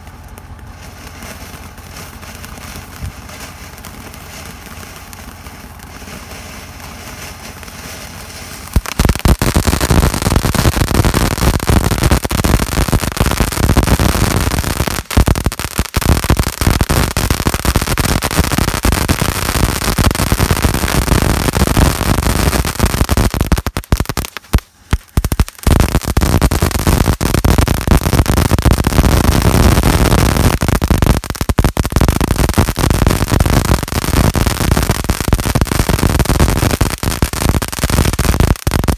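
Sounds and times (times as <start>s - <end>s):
firework fountain crackling: 0.0s - 38.9s.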